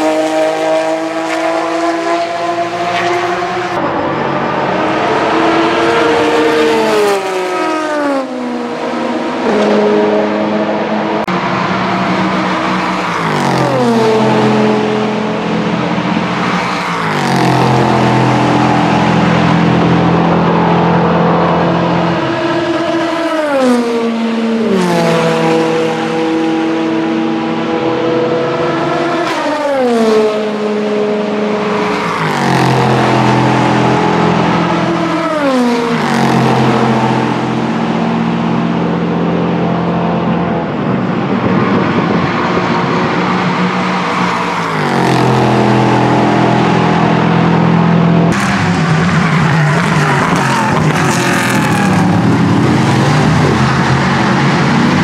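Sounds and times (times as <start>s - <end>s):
racing cars passing at high revs: 0.0s - 55.0s.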